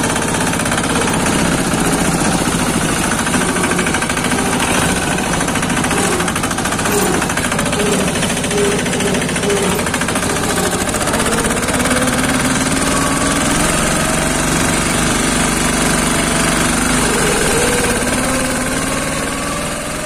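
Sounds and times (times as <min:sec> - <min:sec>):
diesel engine knocking: 0:00.0 - 0:20.0.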